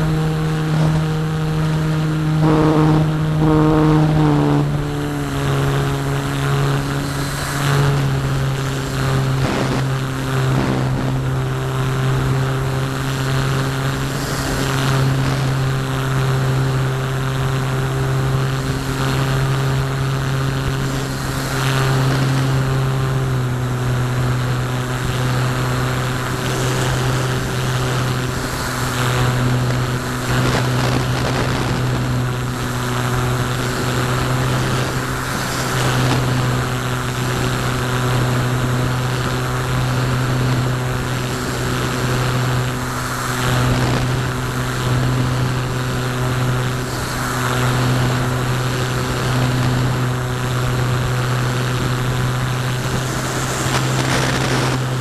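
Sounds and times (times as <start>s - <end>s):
electric motor and propeller drone: 0.0s - 55.0s.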